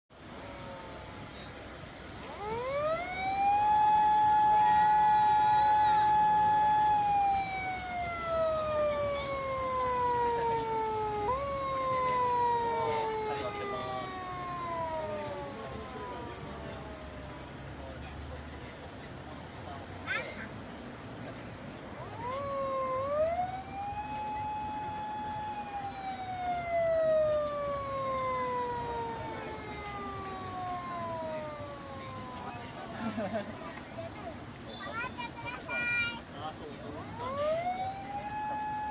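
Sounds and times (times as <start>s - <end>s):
police siren wailing: 0.3s - 18.4s, 22.0s - 33.6s, 36.9s - 38.9s.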